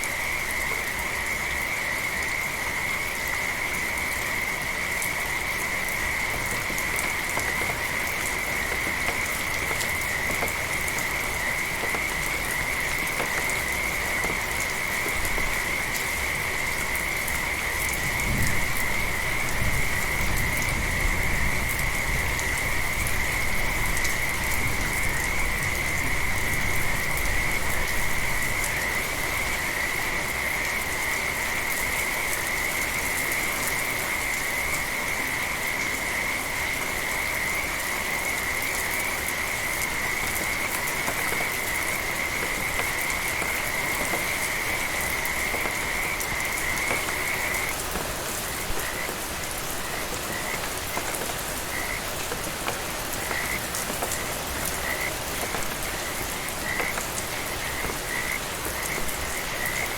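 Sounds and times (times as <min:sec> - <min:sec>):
steady rain: 0:00.0 - 0:59.9
frogs trilling: 0:00.2 - 0:59.9.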